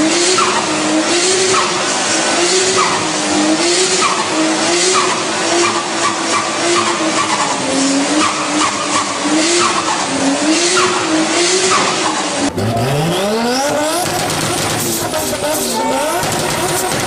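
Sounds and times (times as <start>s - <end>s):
car engine revving: 0.0s - 17.0s
car engine running hard: 0.0s - 17.0s.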